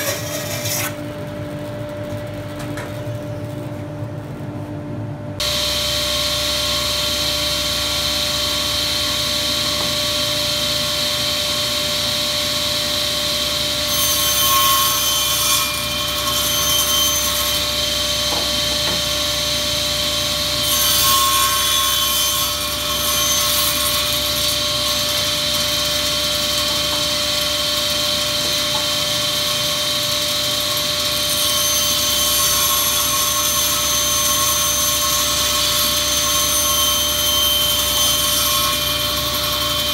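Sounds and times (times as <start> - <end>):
saw cutting through wood: 0.0 - 1.0, 5.4 - 39.9
circular saw whining: 5.4 - 39.9.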